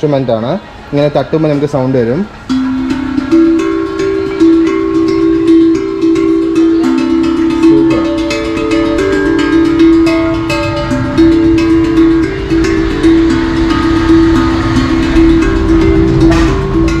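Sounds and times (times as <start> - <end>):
steel tongue drum notes ringing: 0.0 - 17.0.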